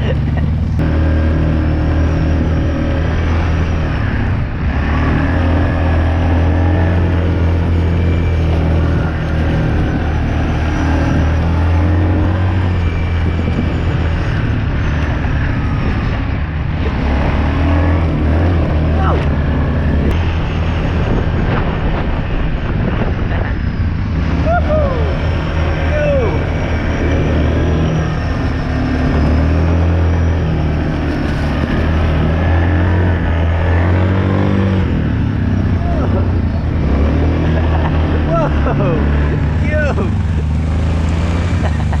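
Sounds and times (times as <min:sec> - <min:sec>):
off-road vehicle engine droning: 0:00.0 - 0:42.0.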